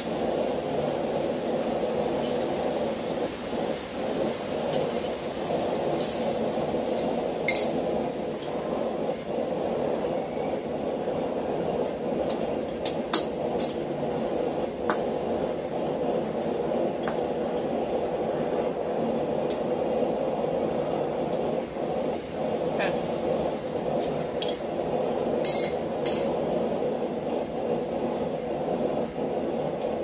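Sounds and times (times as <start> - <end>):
steady rumble: 0.0 - 30.0.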